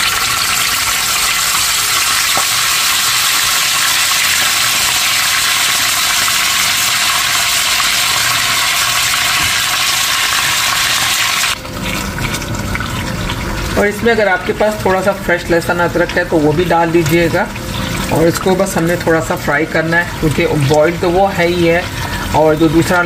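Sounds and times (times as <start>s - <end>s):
paste sizzling in hot oil: 0.0s - 23.0s.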